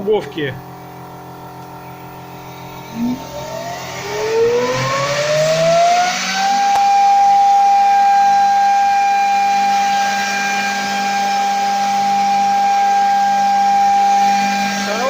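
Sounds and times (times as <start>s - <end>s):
motor whine rising in pitch: 0.0s - 15.0s.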